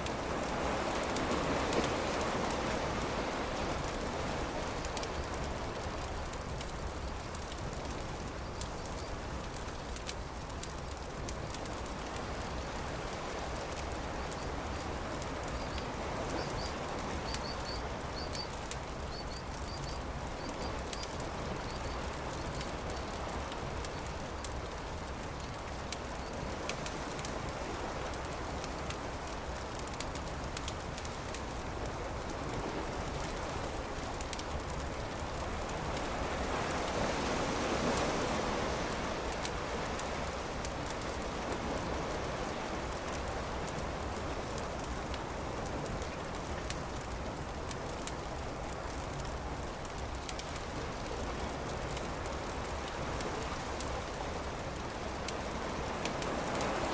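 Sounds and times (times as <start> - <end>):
campfire crackling and popping: 0.0 - 36.9, 39.4 - 56.9
surf washing: 0.0 - 56.9.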